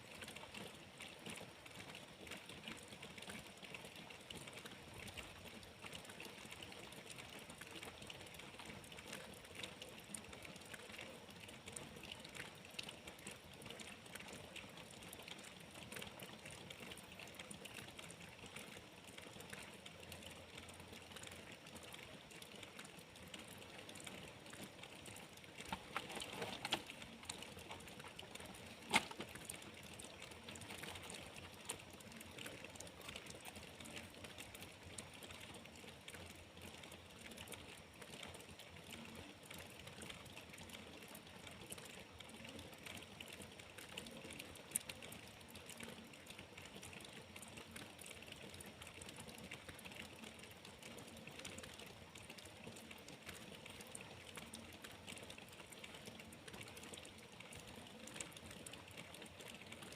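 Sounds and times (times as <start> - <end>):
sharp drip ticks: 0.0 - 59.9
rain pattering: 7.5 - 59.9.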